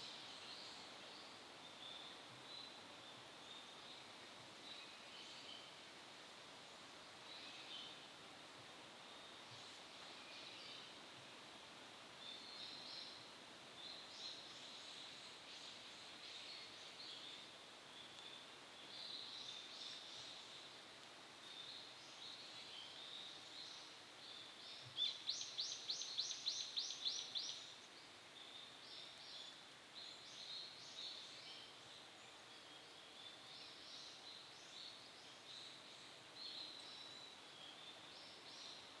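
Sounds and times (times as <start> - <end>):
birds twittering faintly: 0.0 - 39.0.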